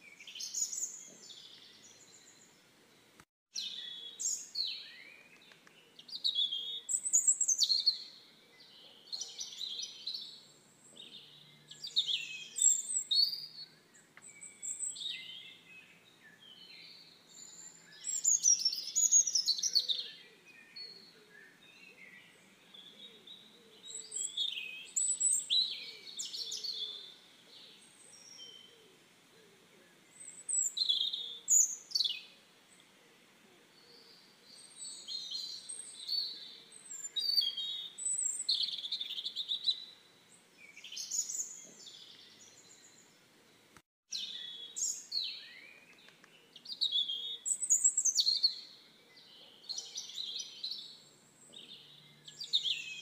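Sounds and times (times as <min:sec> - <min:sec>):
songbirds chirping and singing: 0:00.0 - 0:53.0.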